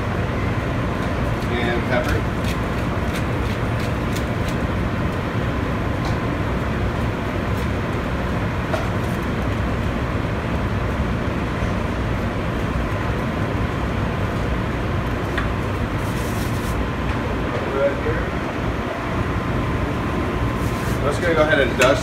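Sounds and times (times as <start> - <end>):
kitchen ventilation roar: 0.0 - 22.0.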